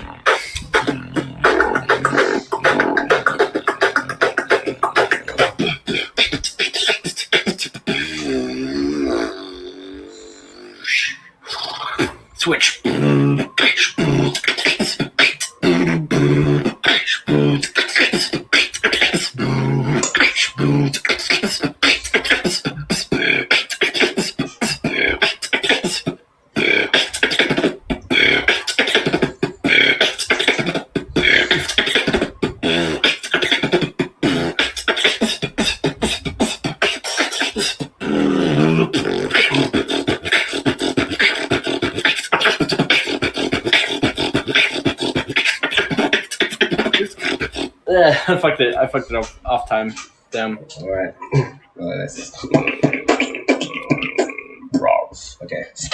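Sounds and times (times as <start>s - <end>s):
person beatboxing: 0.0s - 50.1s, 52.2s - 55.9s.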